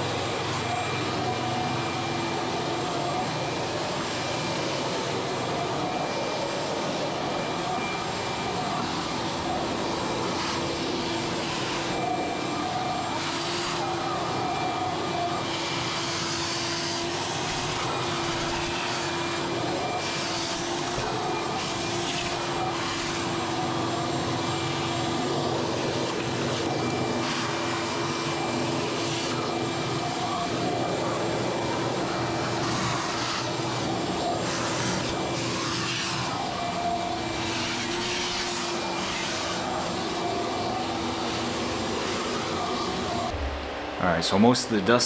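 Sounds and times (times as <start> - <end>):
vacuum cleaner motor running: 0.0 - 45.0.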